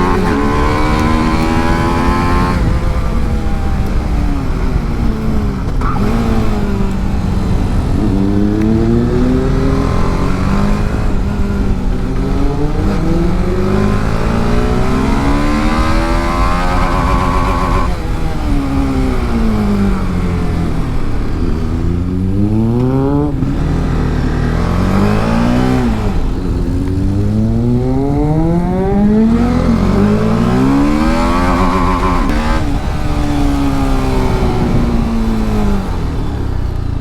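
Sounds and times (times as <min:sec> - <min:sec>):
motorcycle engine at full throttle: 0:00.0 - 0:37.0.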